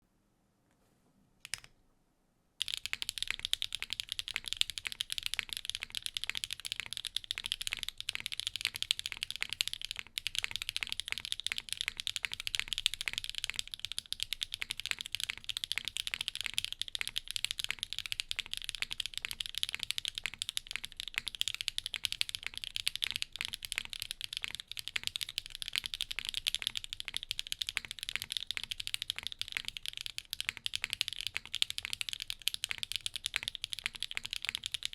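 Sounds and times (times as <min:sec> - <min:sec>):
mechanical keyboard typing: 0:02.6 - 0:34.9.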